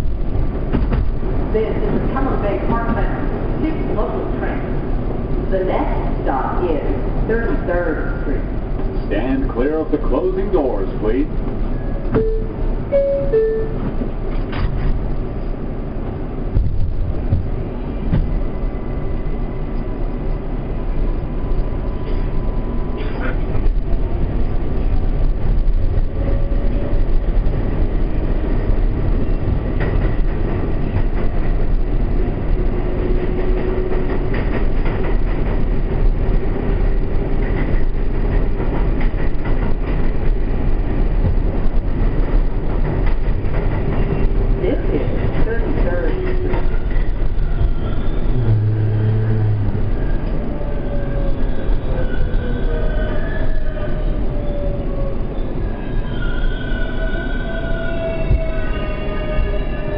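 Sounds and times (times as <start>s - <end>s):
train rumble and rail noise: 0.0s - 59.9s.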